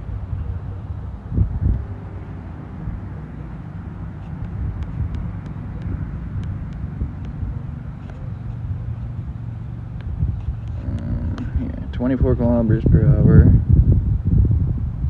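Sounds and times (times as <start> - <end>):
gusty wind on microphone: 0.0 - 15.0.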